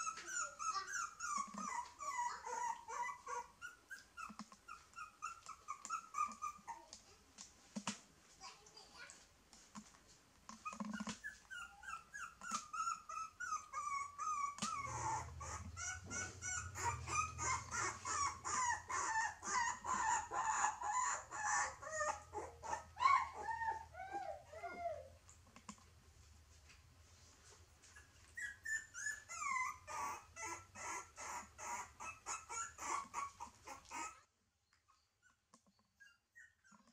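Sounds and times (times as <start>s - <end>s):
puppy whimpering and yelping: 0.0s - 7.0s, 10.5s - 25.4s, 27.8s - 36.9s.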